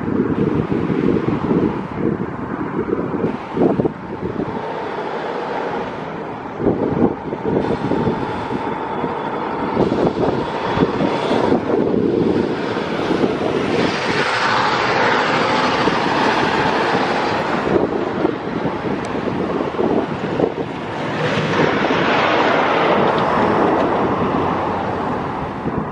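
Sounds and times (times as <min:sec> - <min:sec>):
road traffic passing: 0:00.0 - 0:25.9
tanker truck driving past: 0:03.3 - 0:25.9.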